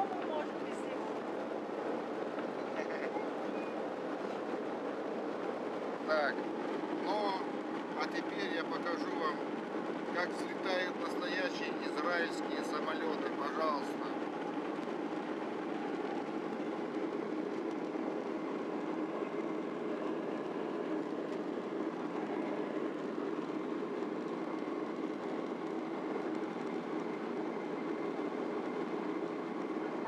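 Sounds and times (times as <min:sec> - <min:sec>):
jet engines at takeoff power: 0:00.0 - 0:30.0
low rumble of takeoff roll: 0:00.0 - 0:30.0.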